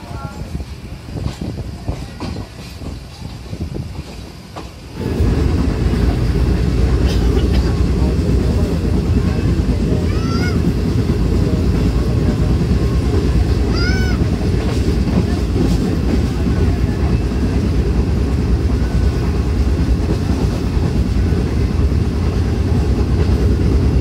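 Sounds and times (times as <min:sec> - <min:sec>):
rail joint clicks: 0:00.0 - 0:24.0
train wheels rumbling on rails: 0:00.0 - 0:24.0.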